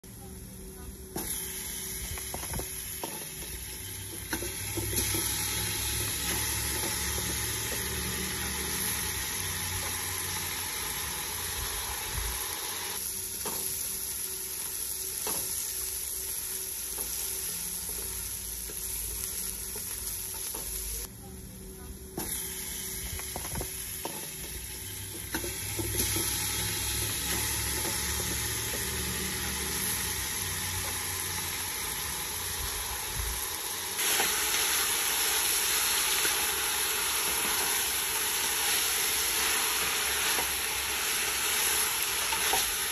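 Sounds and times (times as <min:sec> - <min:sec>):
onion sizzling in hot oil: 0:00.2 - 0:42.9.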